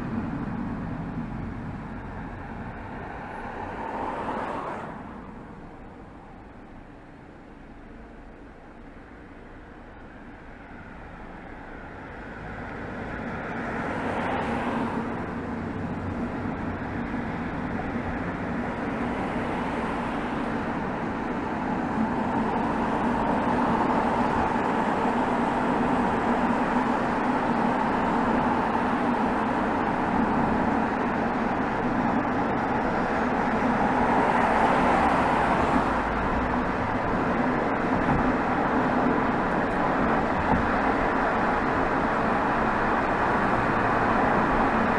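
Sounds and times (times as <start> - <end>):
tyre and road noise: 0.0 - 44.9.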